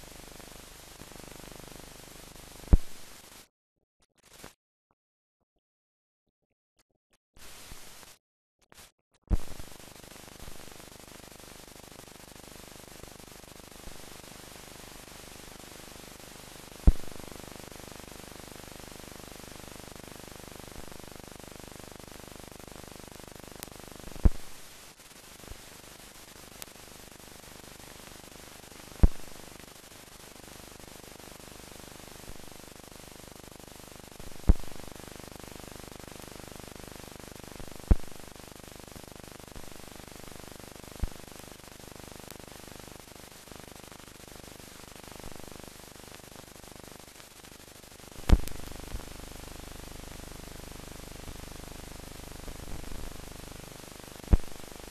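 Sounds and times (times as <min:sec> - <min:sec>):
film soundtrack hiss: 0:00.0 - 0:03.4, 0:09.3 - 0:54.9.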